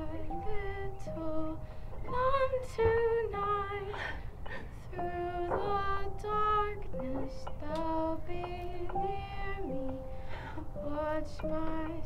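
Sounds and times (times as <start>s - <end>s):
person singing slow melody: 0.0s - 12.0s.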